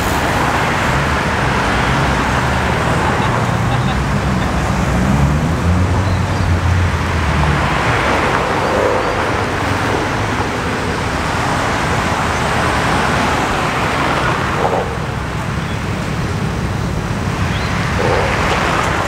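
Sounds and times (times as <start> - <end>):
passing traffic: 0.0 - 19.0
tyre noise: 0.0 - 19.0.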